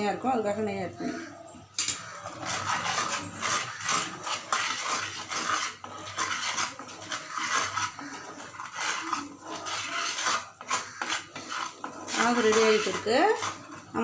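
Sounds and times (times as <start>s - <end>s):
spoon scraping metal pan: 0.8s - 14.0s.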